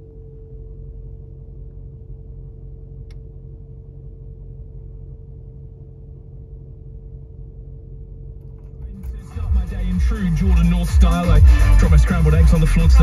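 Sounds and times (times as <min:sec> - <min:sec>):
low cabin hum: 0:00.0 - 0:13.0.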